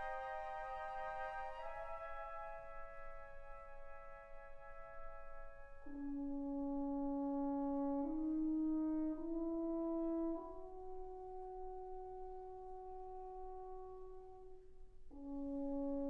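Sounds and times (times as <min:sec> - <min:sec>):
slow horn-like music: 0:00.0 - 0:16.0.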